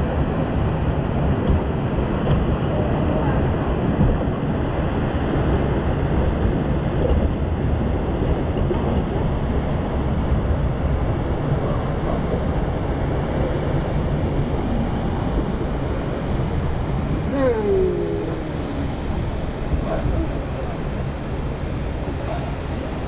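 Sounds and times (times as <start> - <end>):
water rushing and churning: 0.0 - 23.0
wind buffeting microphone: 0.0 - 23.0.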